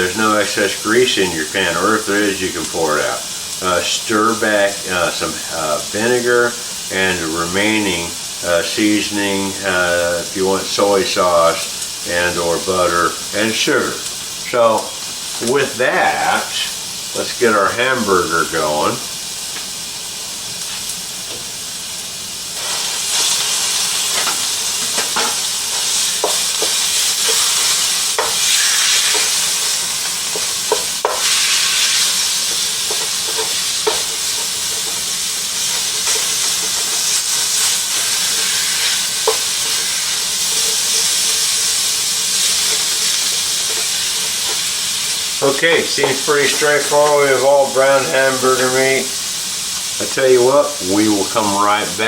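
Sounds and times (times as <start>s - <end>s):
meat sizzling in a frying pan: 0.0s - 52.0s.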